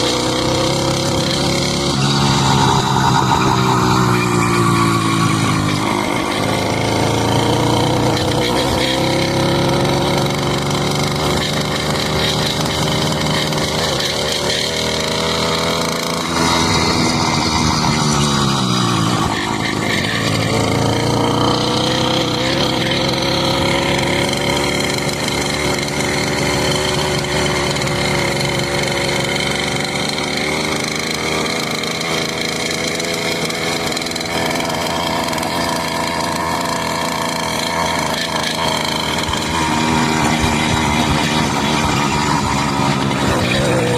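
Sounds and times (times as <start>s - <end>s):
motorcycle engine at high revs: 0.0s - 43.9s.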